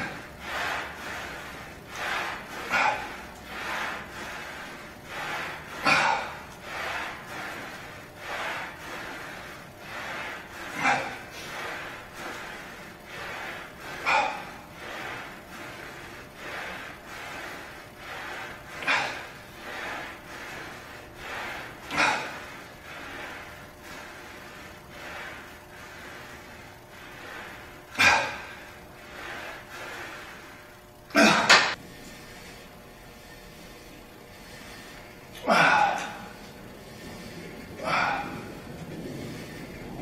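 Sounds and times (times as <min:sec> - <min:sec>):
man breathing hard: 0:00.0 - 0:40.0.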